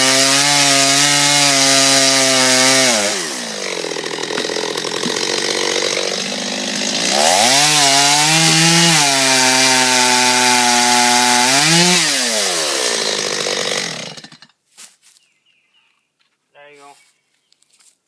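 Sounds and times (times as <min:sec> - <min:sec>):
chainsaw cutting wood: 0:00.0 - 0:14.6.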